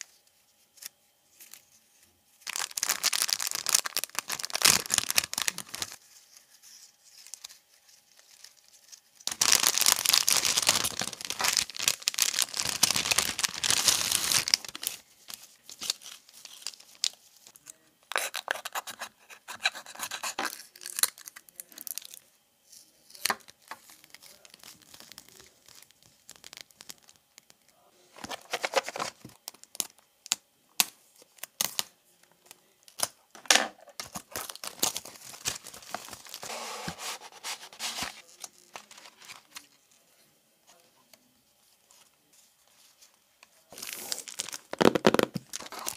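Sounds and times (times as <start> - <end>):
plastic and paper crinkling: 0.8 - 22.2, 23.2 - 30.0, 33.9 - 40.0, 41.9 - 45.9.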